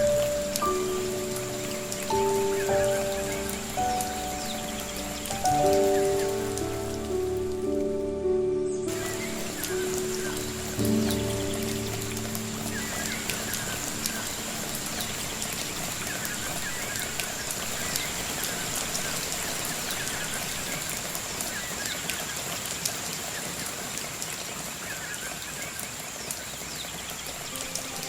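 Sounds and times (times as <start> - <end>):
bird chirping: 0.0 - 22.6
rain pattering on foliage: 0.0 - 28.0
water drips: 0.0 - 28.0.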